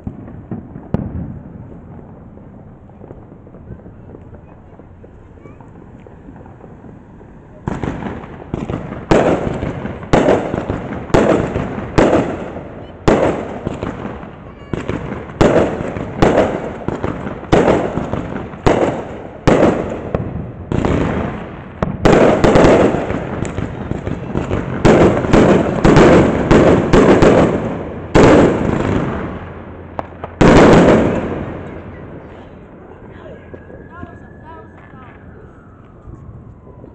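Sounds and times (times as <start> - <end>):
fireworks exploding with echoing bangs: 0.0 - 36.9.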